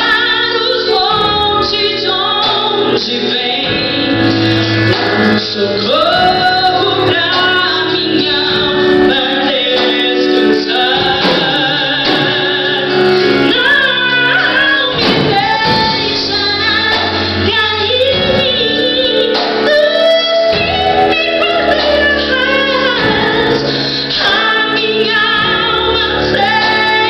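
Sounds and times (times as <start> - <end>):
drum kit: 0.0 - 27.0
keyboard chords: 0.0 - 27.0
women singing gospel song: 0.0 - 27.0.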